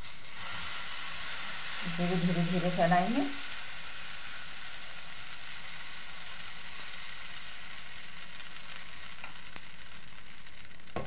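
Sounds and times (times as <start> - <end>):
batter sizzling in frying pan: 0.0 - 11.0.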